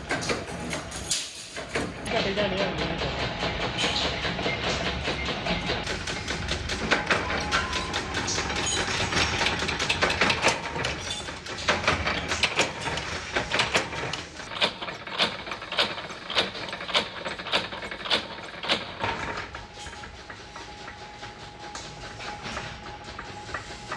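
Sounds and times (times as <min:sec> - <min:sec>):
power press machine running: 0:00.0 - 0:23.9.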